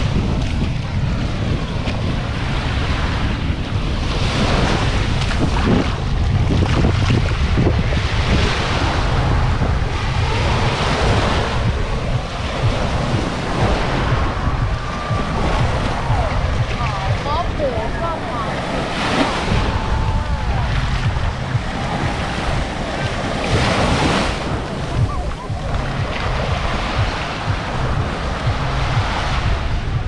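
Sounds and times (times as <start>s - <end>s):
surf washing on beach: 0.0s - 30.0s
wind buffeting microphone: 0.0s - 30.0s.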